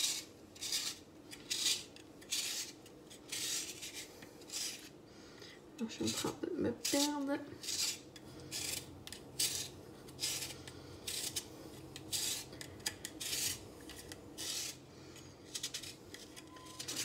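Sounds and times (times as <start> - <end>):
spiralizer blade rasping cucumber: 0.0 - 4.9, 6.0 - 14.8.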